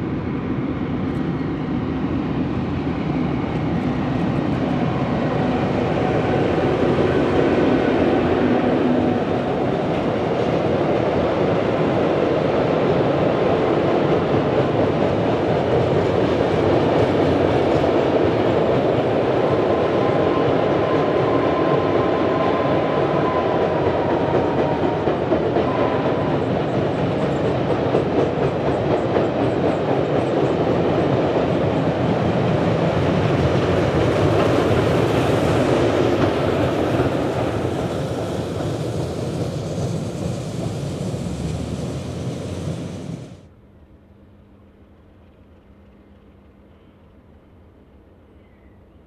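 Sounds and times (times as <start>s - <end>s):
train wheels rumbling on bridge: 0.0s - 43.5s
clickety-clack over rail joints: 3.7s - 43.4s.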